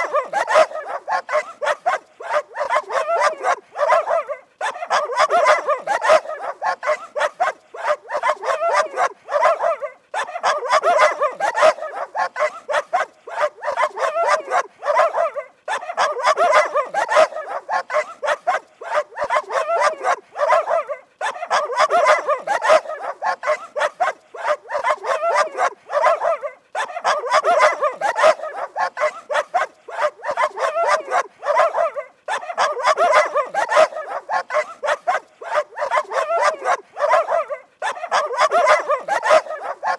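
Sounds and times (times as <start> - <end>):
dogs barking: 0.0 - 39.9.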